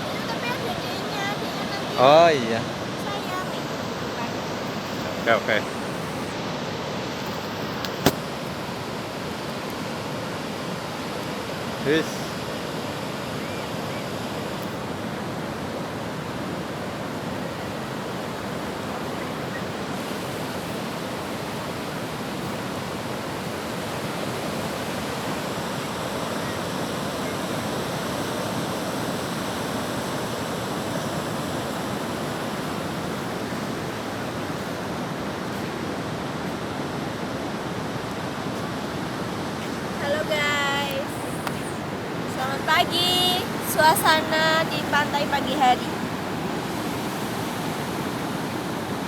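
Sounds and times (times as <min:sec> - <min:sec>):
ocean surf washing onto beach: 0:00.0 - 0:49.0.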